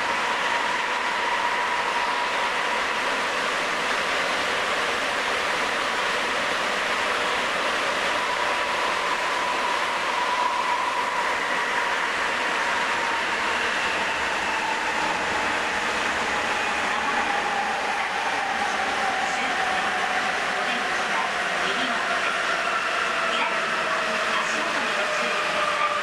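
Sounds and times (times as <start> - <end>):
train rolling noise: 0.0 - 26.0.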